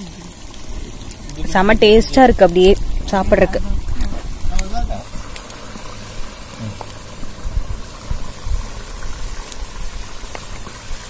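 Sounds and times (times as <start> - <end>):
low uneven fire rumble: 0.0 - 11.0.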